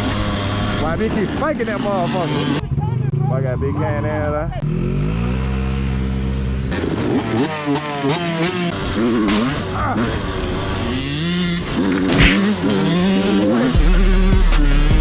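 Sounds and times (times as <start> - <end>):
dirt bike engine revving: 0.0 - 2.8, 4.6 - 15.0.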